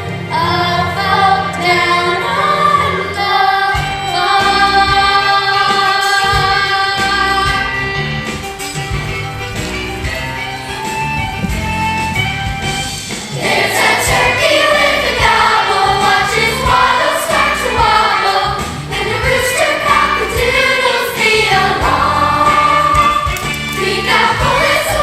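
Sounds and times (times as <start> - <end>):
instrumental accompaniment: 0.0 - 25.0
young voices singing together: 0.0 - 25.0.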